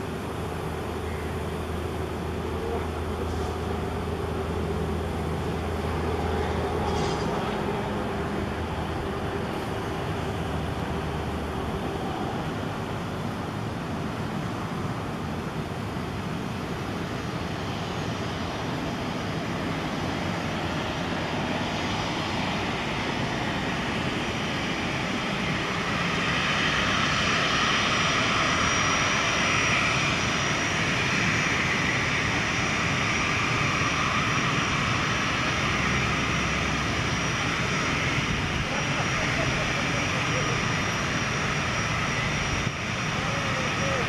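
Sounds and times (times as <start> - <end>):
jet engine whine: 0.0 - 44.0.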